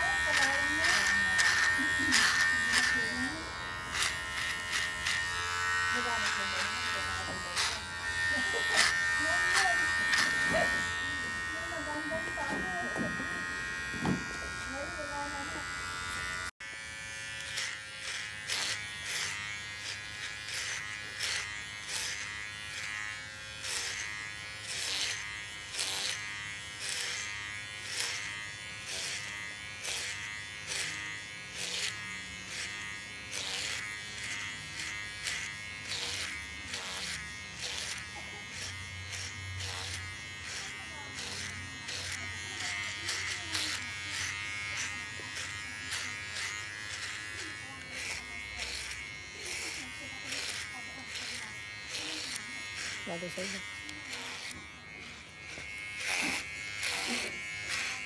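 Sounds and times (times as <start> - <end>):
hair clippers buzzing: 0.0 - 58.0.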